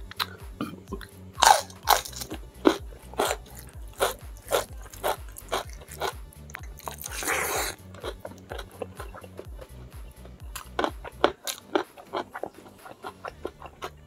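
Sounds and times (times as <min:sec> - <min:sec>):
background music with low beat: 0:00.0 - 0:14.0
crunchy chewing: 0:00.0 - 0:14.0
mouth noise: 0:00.0 - 0:14.0.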